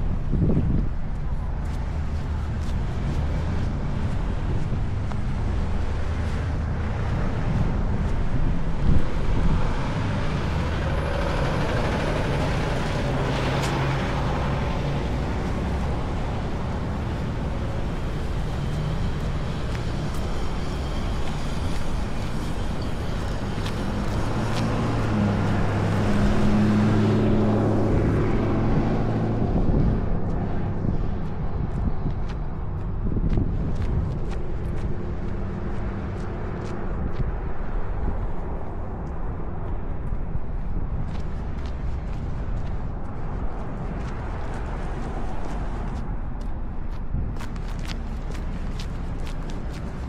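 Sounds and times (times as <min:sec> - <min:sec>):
road traffic noise: 0:00.0 - 0:50.0
vehicle passing close: 0:01.6 - 0:46.7.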